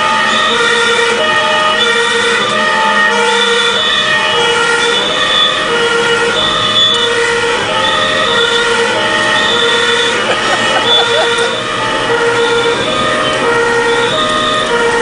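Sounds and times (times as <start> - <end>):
two-tone fire engine siren: 0.0 - 15.0.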